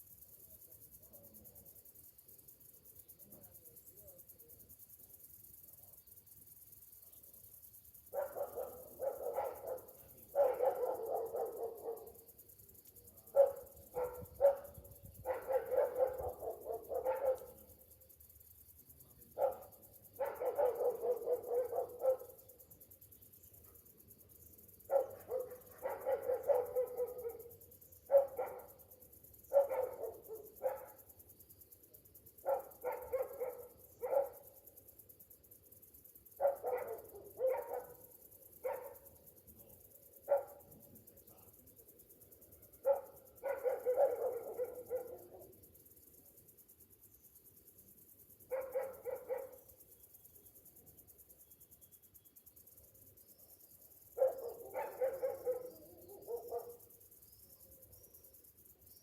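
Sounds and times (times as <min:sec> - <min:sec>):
cicadas humming: 0:05.0 - 0:59.0.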